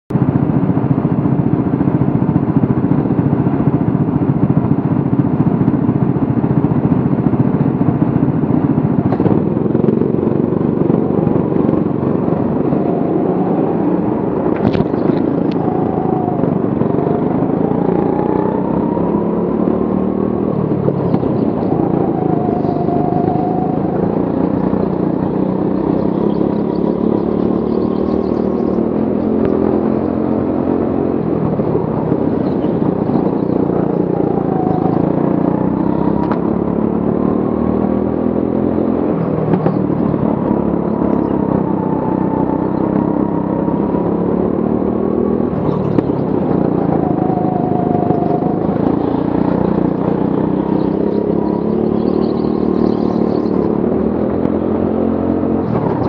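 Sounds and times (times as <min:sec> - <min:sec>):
go-kart engine running hard: 0:00.1 - 0:56.0
other go-kart engines: 0:00.1 - 0:56.0.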